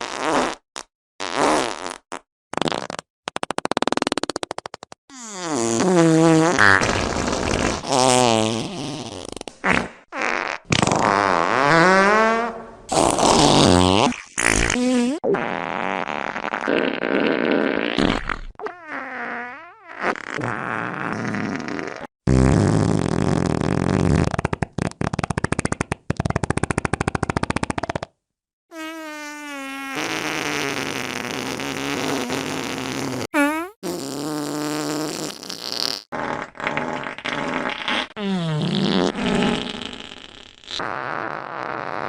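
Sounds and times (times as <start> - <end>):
fart sounds: 0.0 - 42.0.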